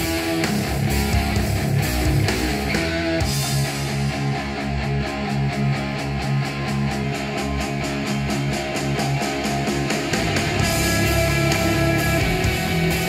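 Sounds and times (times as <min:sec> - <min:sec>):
instrumental rock music: 0:00.0 - 0:13.0.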